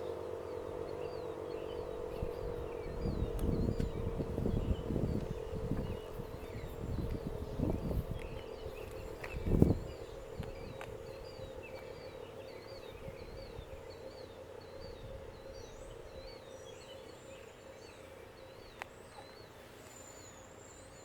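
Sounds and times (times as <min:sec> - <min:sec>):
birds chirping: 0:00.0 - 0:21.0
faint steady hum: 0:00.0 - 0:21.0.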